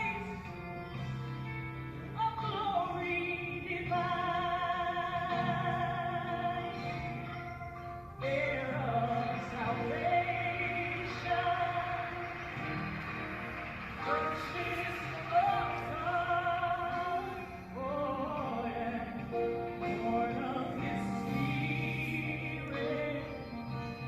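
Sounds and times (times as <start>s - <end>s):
person singing with vibrato: 0.0s - 13.3s, 13.9s - 24.0s.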